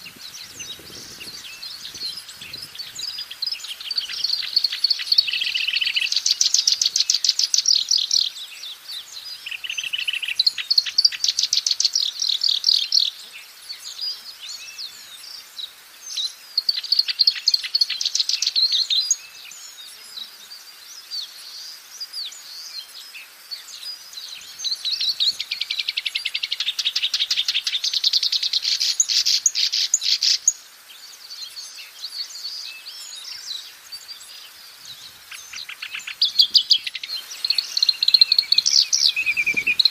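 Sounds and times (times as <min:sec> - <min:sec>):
quiet bird chatter: 0:00.0 - 0:39.9
warbler trilling song: 0:00.0 - 0:39.9.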